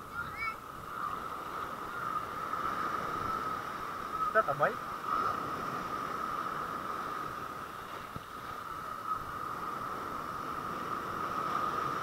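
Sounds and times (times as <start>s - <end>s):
waves washing over rocks: 0.8s - 12.0s.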